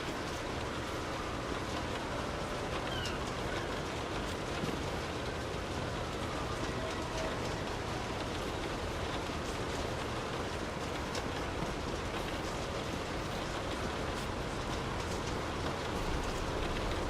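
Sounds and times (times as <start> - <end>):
heavy rain hiss: 0.0 - 17.0
raindrops ticking: 0.1 - 17.0.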